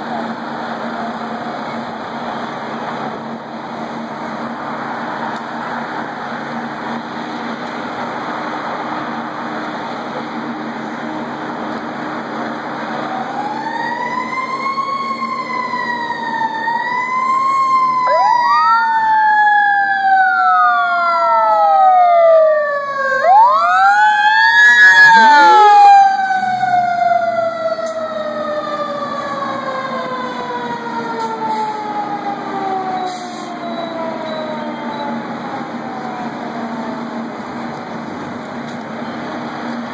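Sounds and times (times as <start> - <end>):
fire engine sirens wailing: 0.0 - 39.9.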